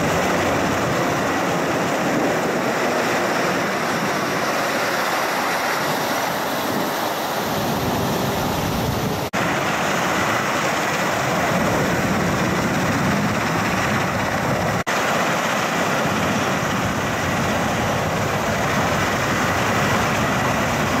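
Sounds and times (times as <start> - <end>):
aircraft turbine engines roaring: 0.0 - 21.0.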